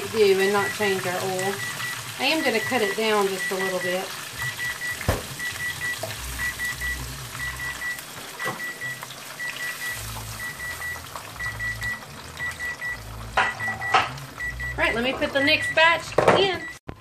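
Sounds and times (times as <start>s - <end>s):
frying oil sizzling: 0.0s - 17.0s
kitchen timer beeping: 0.1s - 17.0s.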